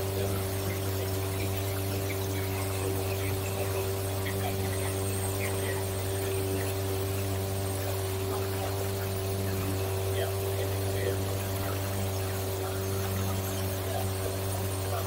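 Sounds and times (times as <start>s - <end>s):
faint steady tones: 0.0s - 15.0s
steady low hum: 0.0s - 15.0s.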